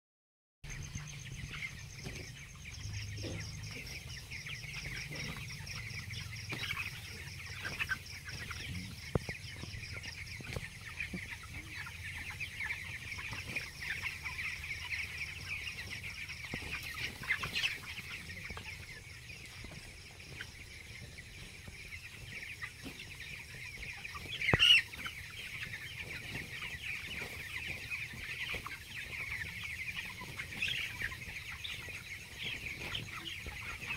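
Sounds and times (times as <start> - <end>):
chickens peeping and clucking: 0.7 - 33.9.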